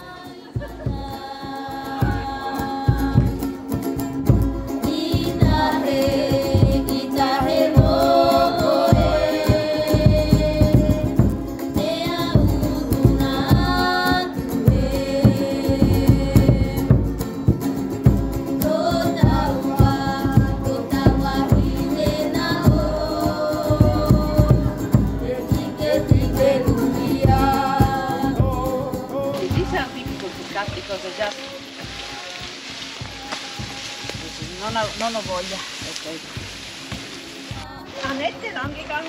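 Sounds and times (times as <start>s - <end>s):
song with group singing: 0.0s - 34.8s, 37.3s - 38.2s.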